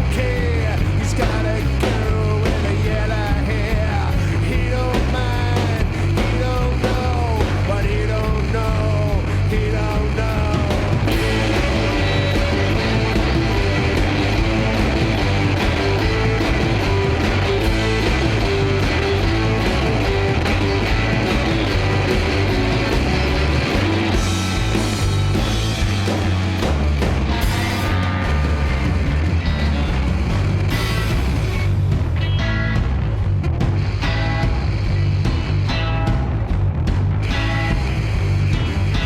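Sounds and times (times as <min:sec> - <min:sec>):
bass: 0:00.0 - 0:39.0
distorted guitars: 0:00.0 - 0:39.0
drums: 0:00.0 - 0:39.0.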